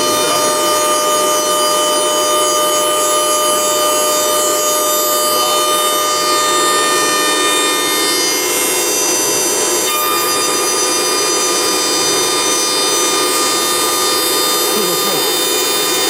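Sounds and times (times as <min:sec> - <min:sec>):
bit rasping into wood: 0:00.0 - 0:16.0
router spindle whine: 0:00.0 - 0:16.0.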